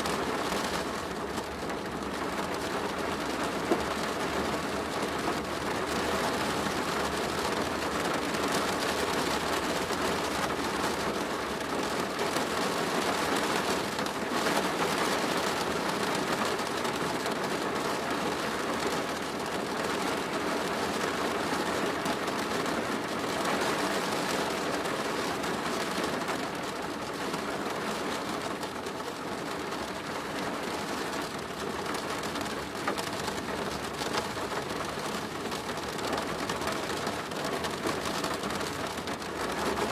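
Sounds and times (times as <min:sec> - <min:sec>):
rain drumming on a plastic roof: 0:00.0 - 0:39.9.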